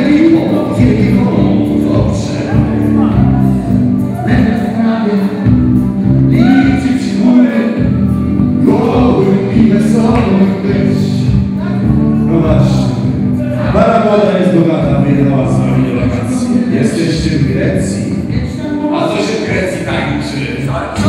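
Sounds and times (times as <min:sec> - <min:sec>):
dance music with bass: 0:00.0 - 0:21.0
person singing: 0:00.0 - 0:21.0.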